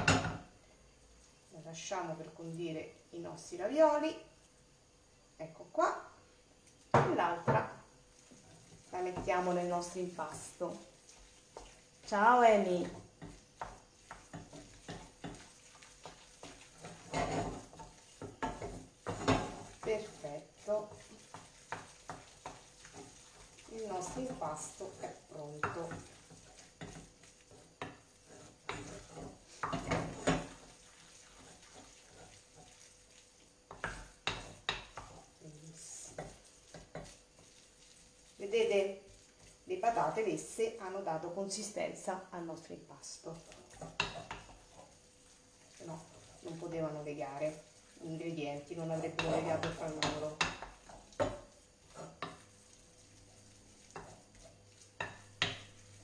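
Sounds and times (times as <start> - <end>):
filling mixed in glass bowl: 8.1 - 41.6, 43.0 - 56.0.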